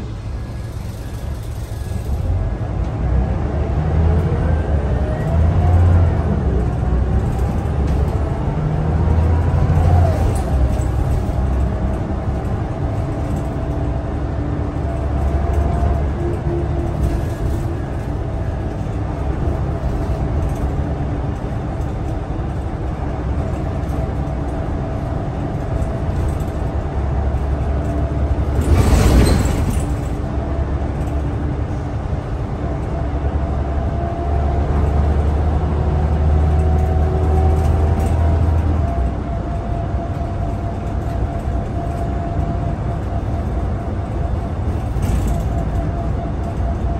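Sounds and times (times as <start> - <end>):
bus engine rumble and whine: 0.0 - 46.9.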